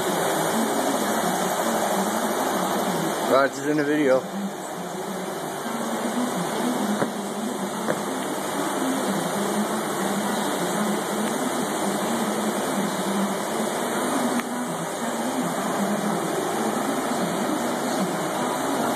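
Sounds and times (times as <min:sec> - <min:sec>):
mechanical hum: 0:00.0 - 0:18.9.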